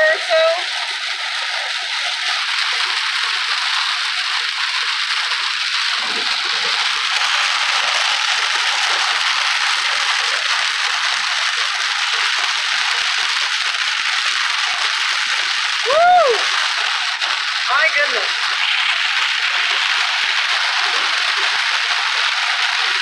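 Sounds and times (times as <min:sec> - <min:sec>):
heavy rain drumming on car roof: 0:00.0 - 0:23.0.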